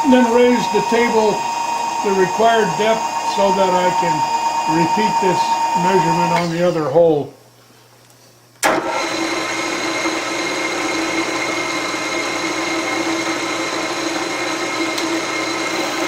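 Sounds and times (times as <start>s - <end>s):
milling machine spindle whirring: 0.0s - 6.9s, 8.7s - 16.0s.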